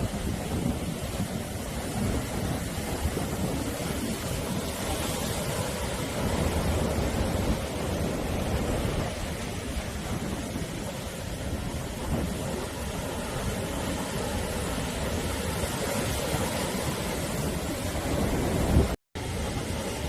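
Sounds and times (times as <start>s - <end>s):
waves breaking on shore: 0.0s - 20.0s.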